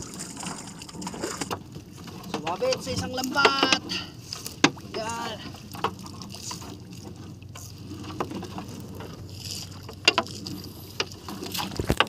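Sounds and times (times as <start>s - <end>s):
water noise: 0.0s - 12.0s.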